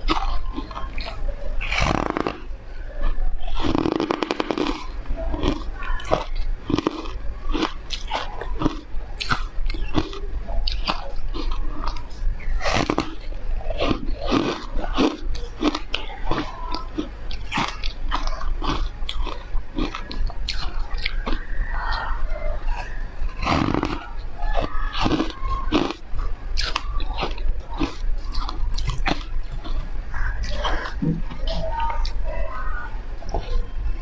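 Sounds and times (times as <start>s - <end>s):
crunchy chewing: 0.0s - 34.0s.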